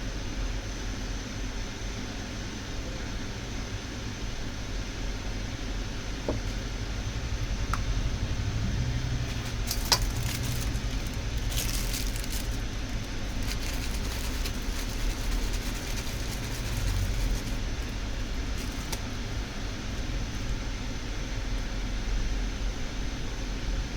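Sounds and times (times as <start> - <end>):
low fan hum: 2.7 - 23.9.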